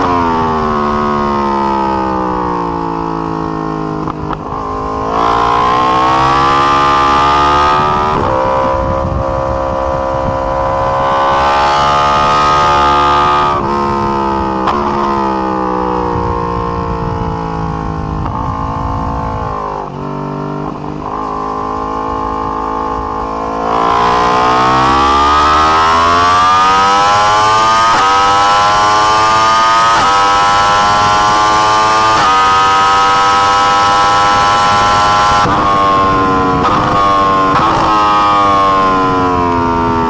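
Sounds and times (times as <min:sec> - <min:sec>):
motorcycle engine revving: 0:00.0 - 0:40.0
quick gear upshifts: 0:00.0 - 0:40.0.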